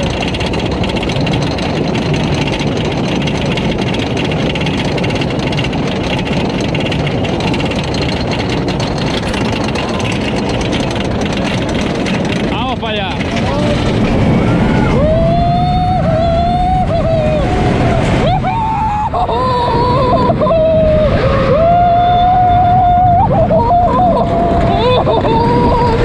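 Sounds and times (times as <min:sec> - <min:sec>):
roller coaster rumbling on track: 0:00.0 - 0:26.0
wind on microphone: 0:00.0 - 0:26.0.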